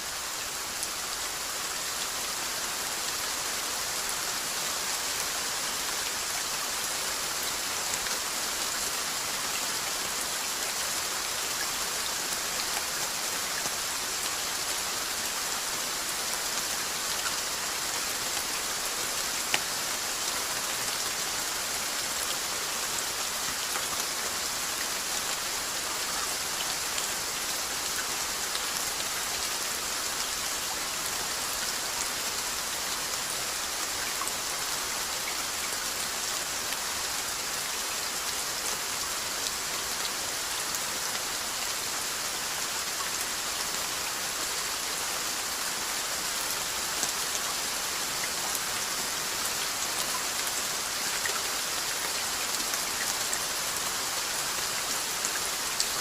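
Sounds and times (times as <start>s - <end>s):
steady rainfall pattering: 0.0s - 56.0s.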